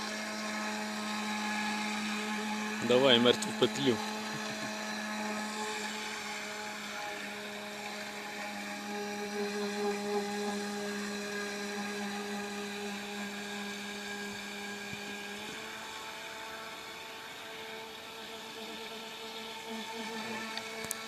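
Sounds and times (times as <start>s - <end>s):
electric motor whine: 0.0s - 21.0s.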